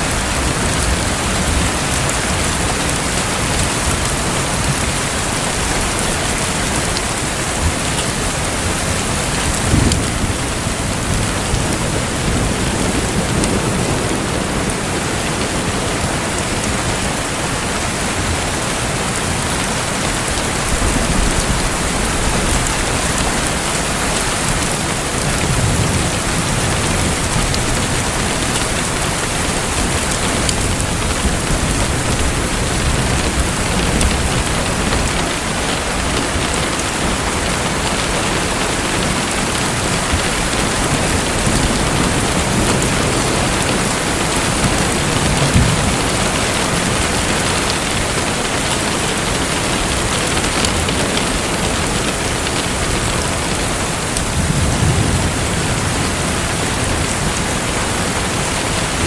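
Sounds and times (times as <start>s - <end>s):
rush of water: 0.0s - 59.0s.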